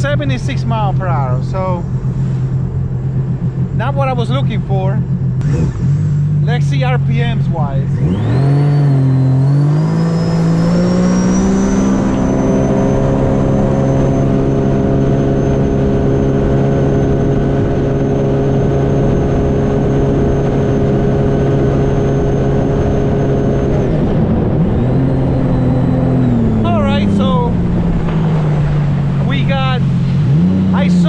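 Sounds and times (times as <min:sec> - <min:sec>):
high whine: 0:00.0 - 0:31.0
watercraft engine at full throttle: 0:00.0 - 0:31.0.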